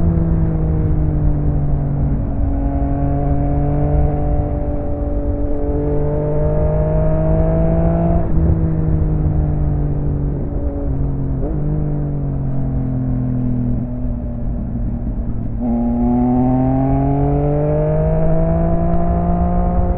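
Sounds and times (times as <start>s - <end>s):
low rumble: 0.0s - 19.9s
motorcycle engine accelerating: 0.0s - 19.9s.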